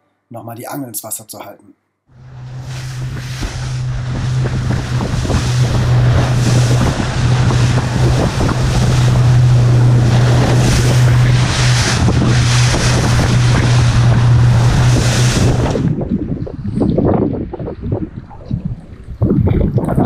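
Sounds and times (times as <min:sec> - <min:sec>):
boat motor running: 0:02.1 - 0:20.0
waves and spray hitting hull: 0:02.2 - 0:20.0
wind buffeting microphone: 0:02.2 - 0:20.0.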